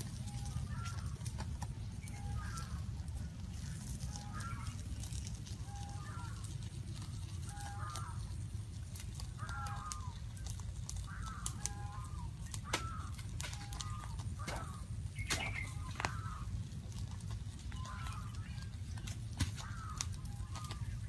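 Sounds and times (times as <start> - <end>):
bird calling: 0.0 - 21.0
low rumble: 0.0 - 21.0
sharp crackles: 0.0 - 21.0.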